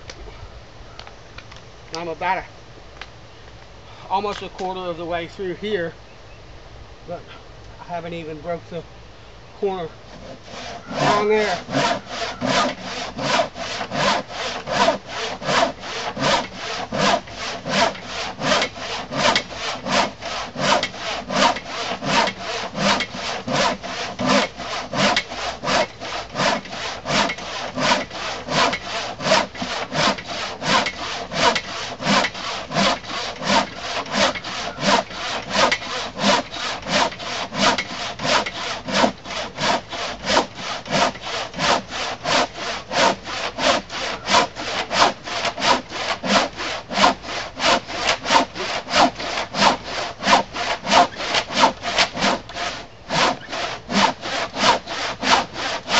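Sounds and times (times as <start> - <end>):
handsaw cutting wood: 9.7 - 55.9.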